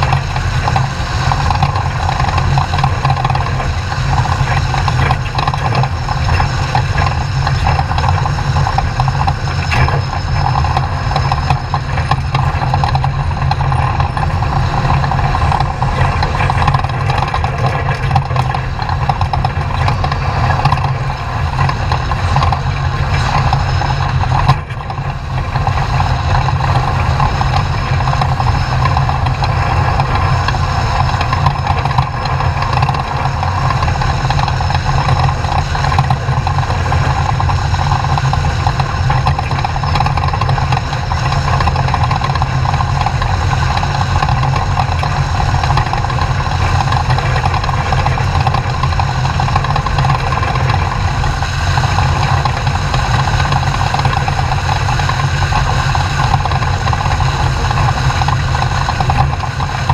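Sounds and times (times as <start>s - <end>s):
road noise: 0.0s - 59.9s
truck engine running hard: 0.0s - 59.9s.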